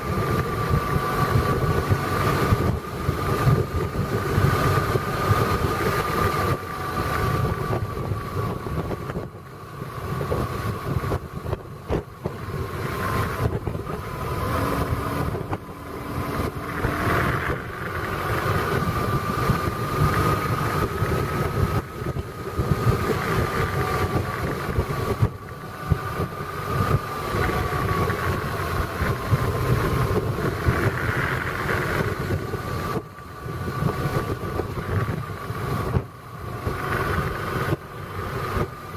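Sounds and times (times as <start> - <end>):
continuous whine: 0.0 - 38.9
engine and road rumble: 0.0 - 38.9
wind buffeting microphone: 0.0 - 38.9.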